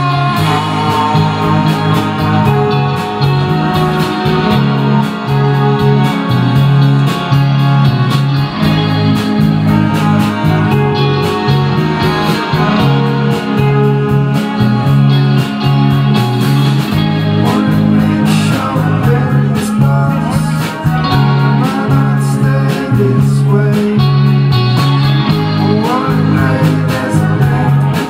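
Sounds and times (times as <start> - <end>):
electric guitars: 0.0 - 28.0
repeating bass line: 0.0 - 28.0
steady drum beat: 0.0 - 28.0.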